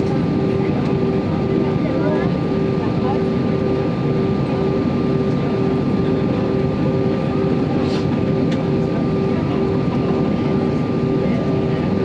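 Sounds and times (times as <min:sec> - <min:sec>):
jet engines hum in cabin: 0:00.0 - 0:12.0.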